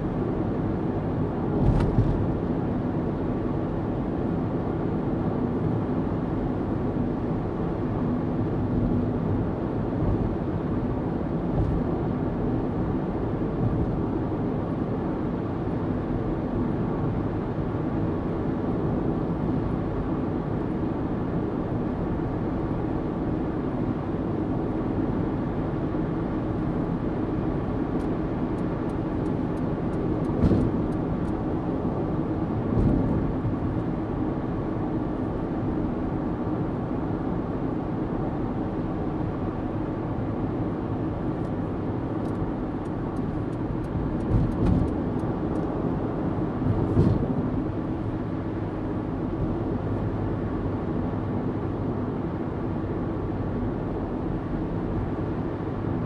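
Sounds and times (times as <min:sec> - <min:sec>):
faint engine hum: 0:00.0 - 0:56.0.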